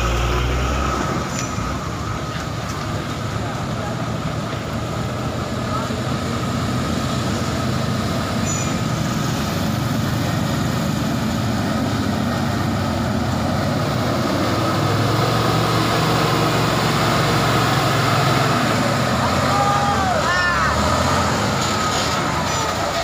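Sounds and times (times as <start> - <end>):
diesel truck engine under load: 0.0 - 23.0.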